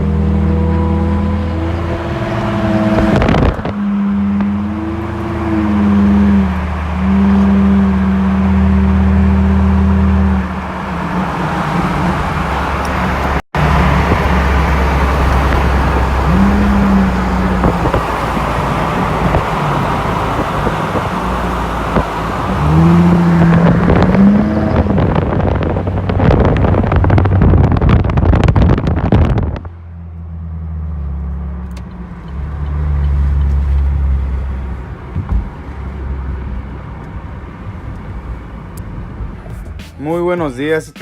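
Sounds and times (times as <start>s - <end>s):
car engine revving: 0.0s - 40.3s.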